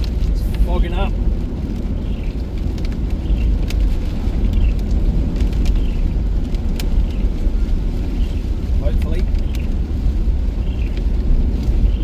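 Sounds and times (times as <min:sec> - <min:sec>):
rain tapping on car: 0:00.0 - 0:12.0
road and engine rumble: 0:00.0 - 0:12.0
soft sweep of wipers: 0:00.0 - 0:12.0.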